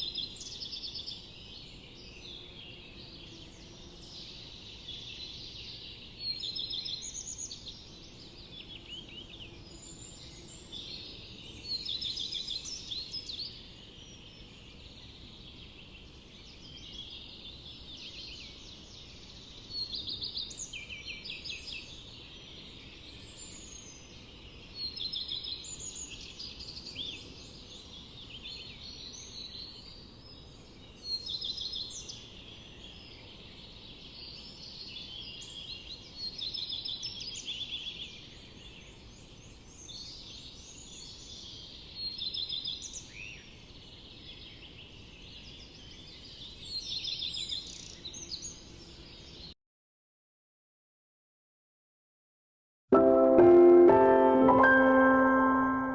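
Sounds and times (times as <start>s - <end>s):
chorus of bird chirps: 0.0s - 49.5s.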